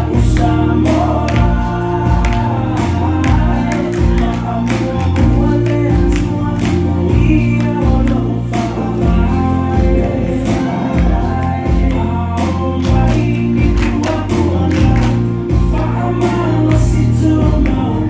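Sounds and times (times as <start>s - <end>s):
bass line and beat: 0.0s - 18.0s
choir singing gospel: 0.0s - 18.0s.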